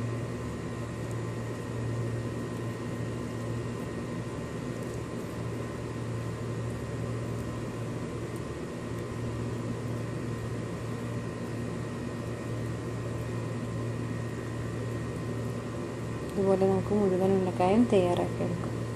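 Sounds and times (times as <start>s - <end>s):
machine hum: 0.0s - 18.9s.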